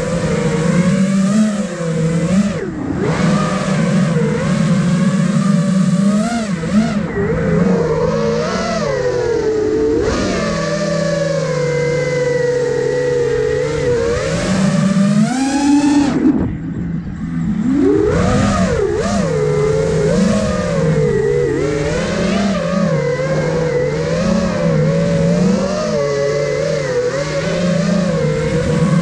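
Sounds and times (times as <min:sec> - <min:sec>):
quadcopter motors buzzing: 0:00.0 - 0:29.0.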